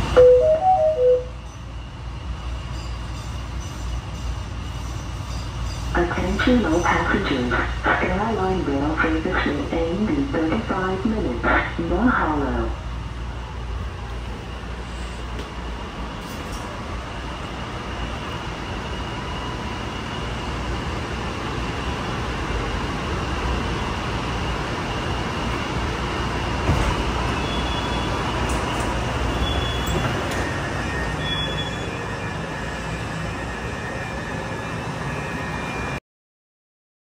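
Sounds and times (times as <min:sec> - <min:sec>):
faint train whines: 0:00.0 - 0:36.0
train rolling rumble: 0:00.0 - 0:36.0.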